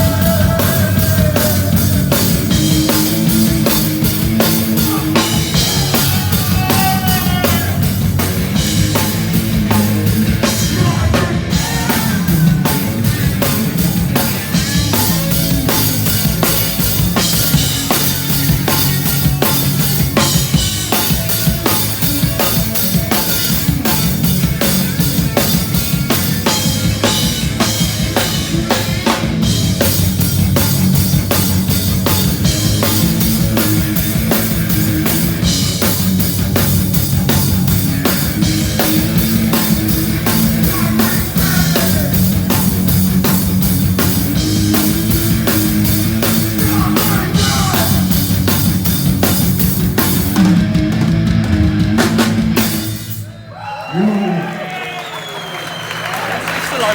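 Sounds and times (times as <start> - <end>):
distorted electric guitar and bass: 0.0 - 53.2
fast punk drumming: 0.0 - 54.5.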